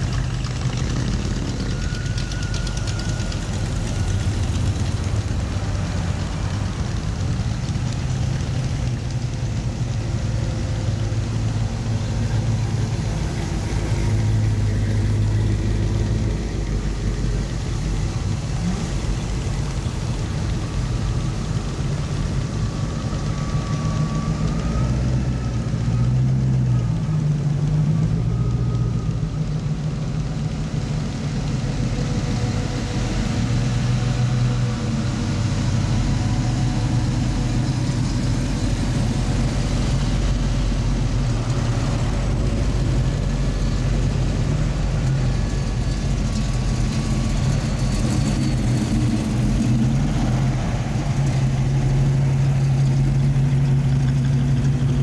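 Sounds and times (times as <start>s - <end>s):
car engines driving slowly past: 0.0s - 55.0s.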